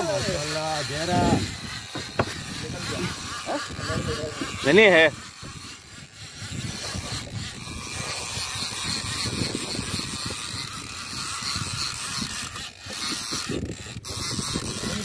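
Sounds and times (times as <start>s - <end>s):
fishing reel ratchet clicking: 0.0s - 15.0s.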